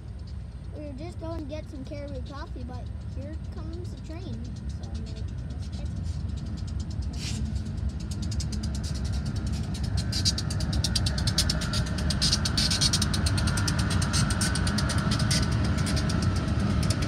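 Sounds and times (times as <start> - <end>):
diesel locomotive engine rumble: 0.0 - 17.0
train wheels clattering: 0.8 - 17.0.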